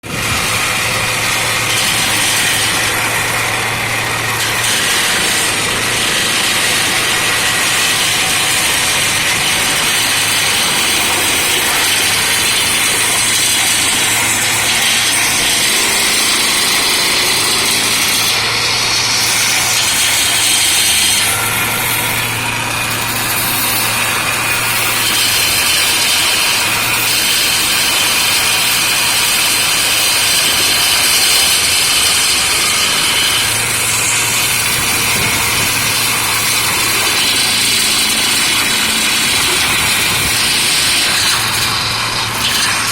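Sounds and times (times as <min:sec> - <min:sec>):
forestry machinery engine running: 0:00.0 - 0:42.9
hissing mechanical noise: 0:00.0 - 0:42.9.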